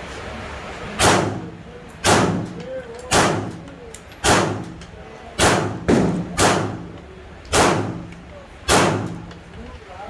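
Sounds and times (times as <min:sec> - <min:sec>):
gunshots echoing: 0:01.0 - 0:09.4.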